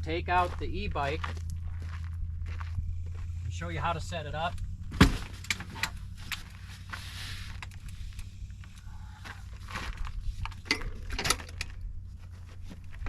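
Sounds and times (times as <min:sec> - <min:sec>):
footsteps: 0:00.0 - 0:11.0
steady low hum: 0:00.0 - 0:13.0.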